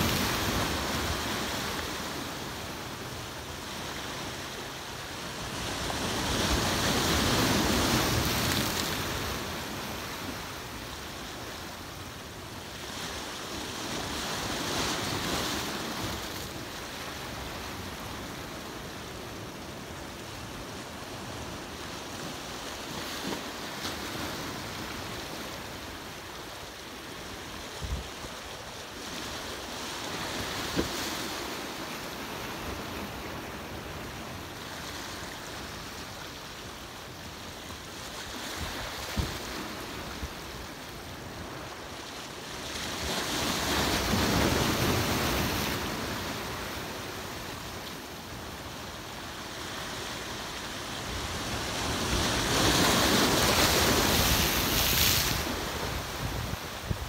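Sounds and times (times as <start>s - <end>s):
ocean surf on rocks: 0.0s - 57.0s.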